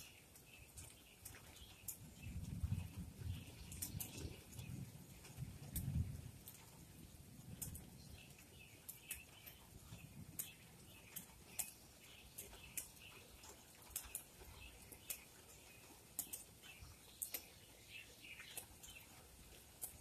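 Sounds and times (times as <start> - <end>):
raindrops tapping: 0.0 - 20.0.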